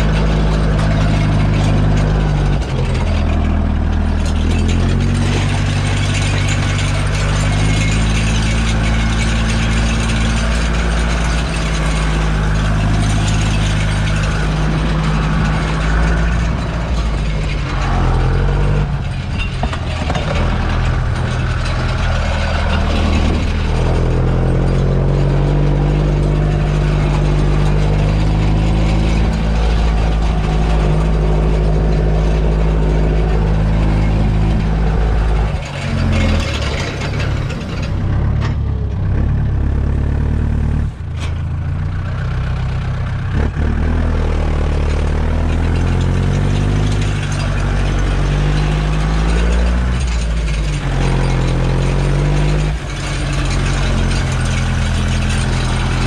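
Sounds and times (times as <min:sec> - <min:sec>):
mechanical rattling: 0:00.0 - 0:56.0
tractor diesel engine running: 0:00.0 - 0:56.0.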